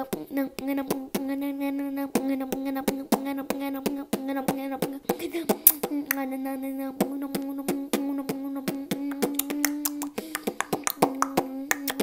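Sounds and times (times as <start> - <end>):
beatboxing clicks and hits: 0.0 - 12.0.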